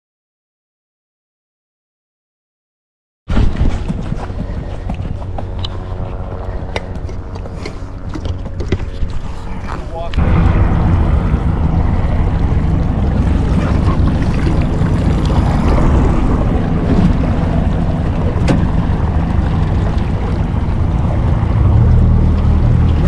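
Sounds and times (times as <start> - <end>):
outboard motor running: 3.3 - 23.0
wind on microphone: 3.3 - 23.0.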